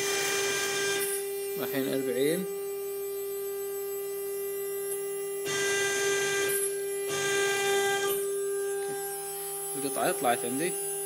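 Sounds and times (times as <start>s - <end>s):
router bit cutting board: 0.0s - 3.2s, 4.9s - 11.0s
cnc router spindle whine: 0.0s - 11.0s.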